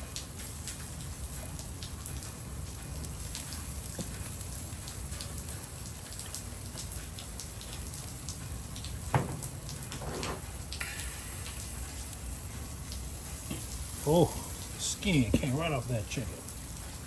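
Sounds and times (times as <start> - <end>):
rain drops ticking: 0.0 - 17.0.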